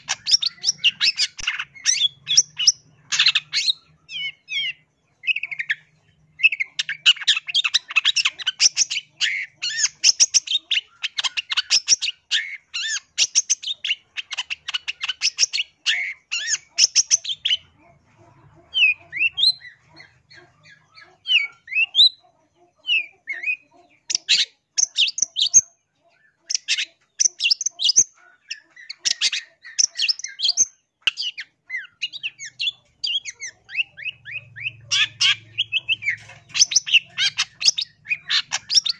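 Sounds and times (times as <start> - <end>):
bird harsh chattering song: 0.0 - 38.9.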